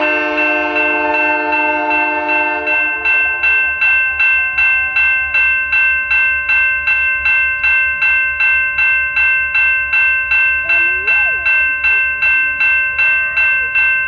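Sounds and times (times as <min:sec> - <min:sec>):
railway bell ringing: 0:00.0 - 0:14.0.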